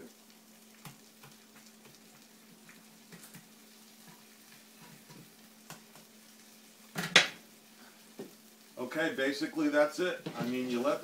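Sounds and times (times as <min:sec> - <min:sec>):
food sizzling in a frying pan: 0:00.0 - 0:11.0
small oil crackles: 0:00.0 - 0:11.0.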